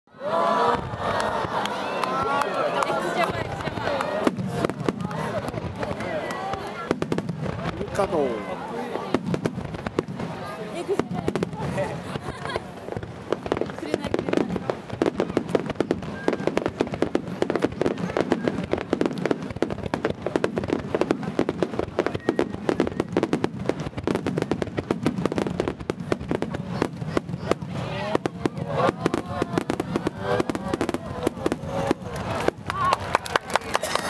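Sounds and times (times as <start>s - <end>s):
fireworks barrage bangs: 0.6s - 34.0s.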